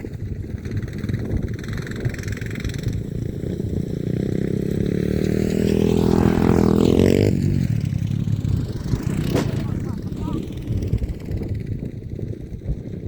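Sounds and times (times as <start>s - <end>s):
small engine accelerating: 0.8s - 12.1s.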